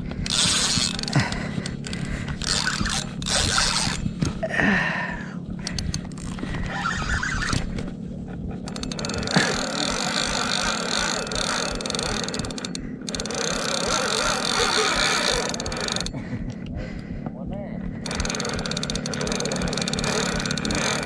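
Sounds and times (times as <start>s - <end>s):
fishing reel whirring and ticking: 0.0s - 4.2s, 5.6s - 7.9s, 8.6s - 16.2s, 18.0s - 21.0s.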